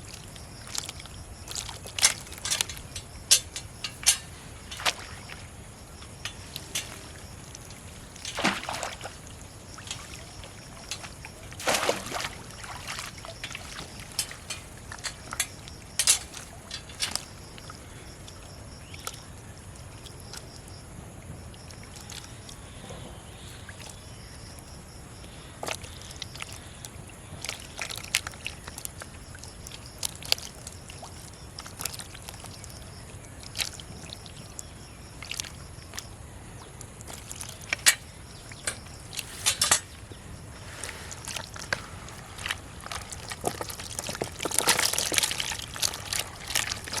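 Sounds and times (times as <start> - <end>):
pond water splashing: 0.0 - 20.8, 21.5 - 47.0.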